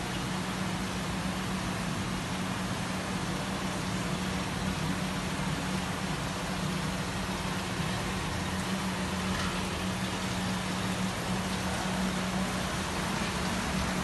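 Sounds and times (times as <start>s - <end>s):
aquarium pump hum: 0.0s - 14.0s
rushing water hiss: 0.0s - 14.0s.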